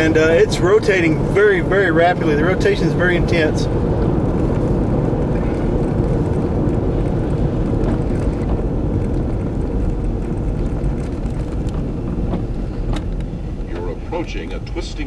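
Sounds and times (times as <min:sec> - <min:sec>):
car road noise inside cabin: 0:00.0 - 0:15.0.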